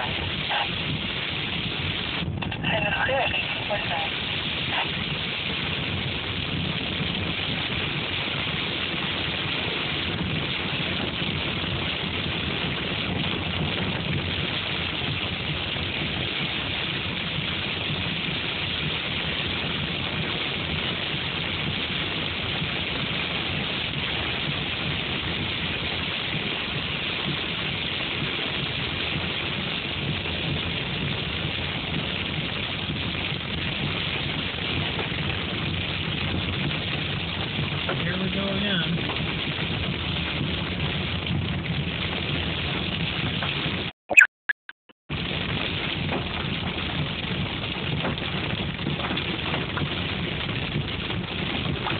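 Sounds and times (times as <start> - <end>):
car low hum: 0.0 - 43.8
rain and hail on car roof: 0.0 - 43.9, 45.1 - 51.9.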